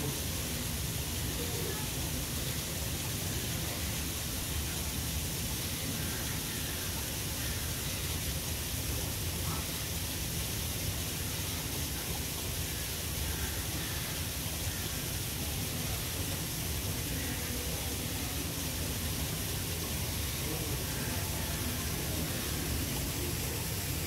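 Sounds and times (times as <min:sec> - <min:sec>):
background hiss: 0:00.0 - 0:24.0
faint distant voices: 0:00.0 - 0:24.0.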